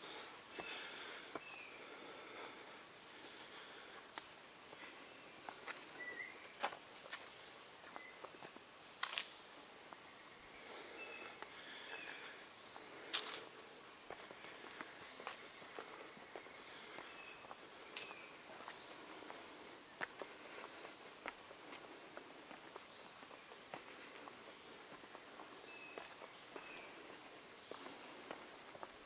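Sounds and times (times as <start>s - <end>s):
footsteps on a trail: 0.0s - 29.0s.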